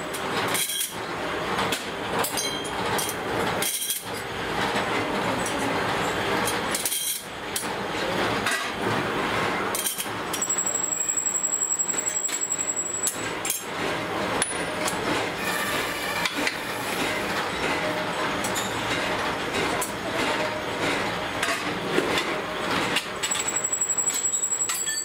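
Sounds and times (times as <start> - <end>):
workshop machinery din: 0.0 - 25.0.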